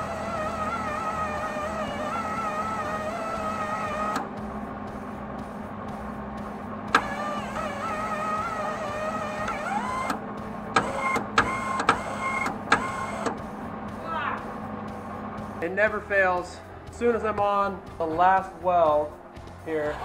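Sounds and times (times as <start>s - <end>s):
wire-feed motor whining: 0.0s - 18.0s, 18.9s - 20.0s
steady low hum: 0.0s - 20.0s.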